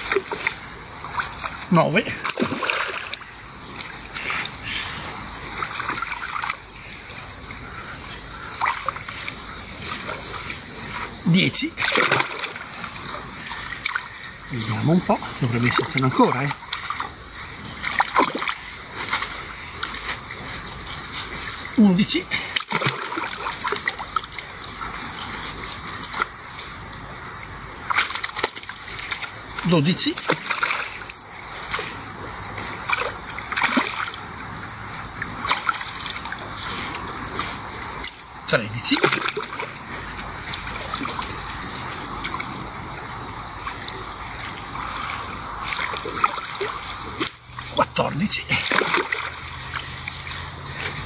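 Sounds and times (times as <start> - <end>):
river water rushing: 0.0 - 51.0
water splashing: 0.0 - 51.0.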